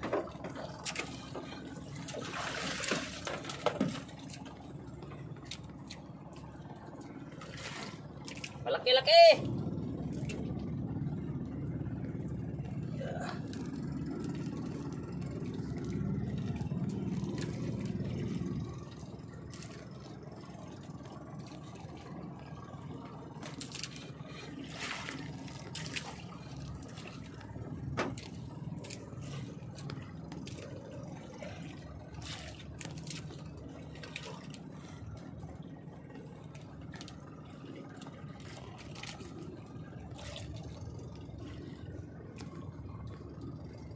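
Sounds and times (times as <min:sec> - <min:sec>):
low steady rumble: 0:00.0 - 0:43.9
water lapping against boat hull: 0:00.0 - 0:43.9.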